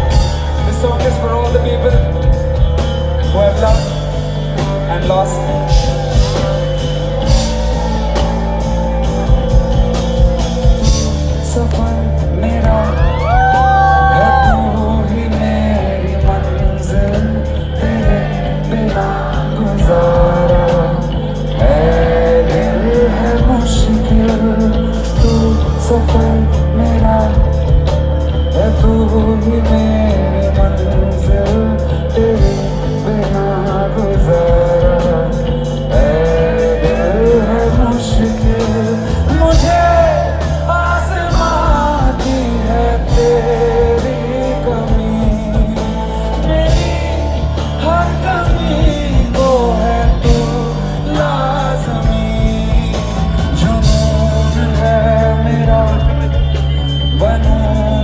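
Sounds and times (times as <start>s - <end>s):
man singing into microphone: 0.0s - 8.1s, 10.8s - 58.0s
live band with bass and drums: 0.0s - 58.0s.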